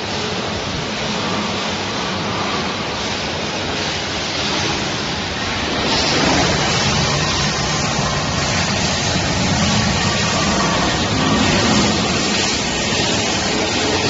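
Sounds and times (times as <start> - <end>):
industrial machinery rushing: 0.0 - 14.0
low hum: 0.0 - 14.0.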